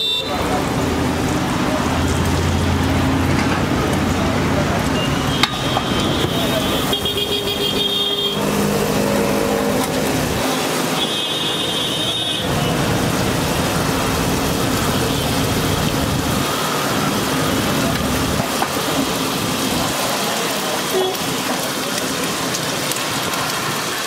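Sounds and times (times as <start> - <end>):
roadside traffic: 0.0 - 24.0.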